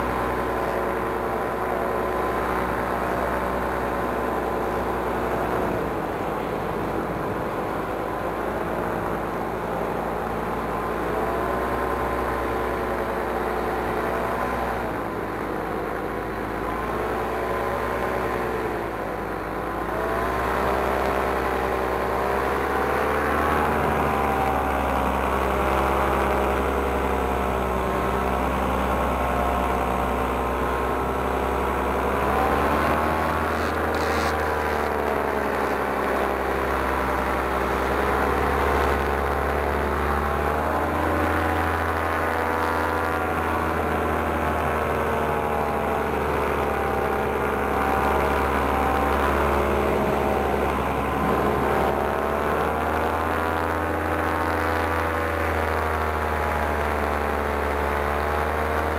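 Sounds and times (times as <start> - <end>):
paramotor engine and propeller: 0.0 - 58.9.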